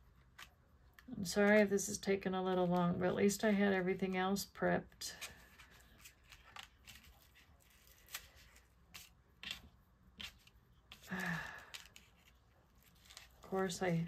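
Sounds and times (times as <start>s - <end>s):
paper card and cord rustling: 0.0s - 3.4s, 4.9s - 14.0s.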